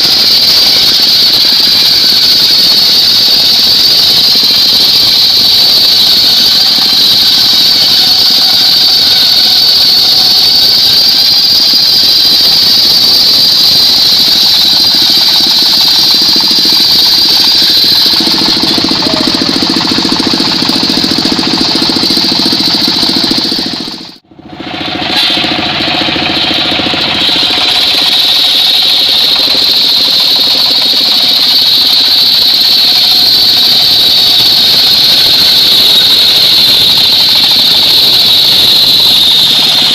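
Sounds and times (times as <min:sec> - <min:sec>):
engine running: 0:00.0 - 0:39.9
saw blade whine: 0:00.0 - 0:39.9.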